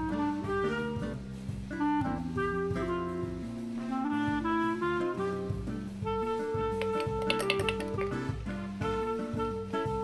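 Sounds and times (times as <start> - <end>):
jazzy instrumental music: 0.0 - 10.0.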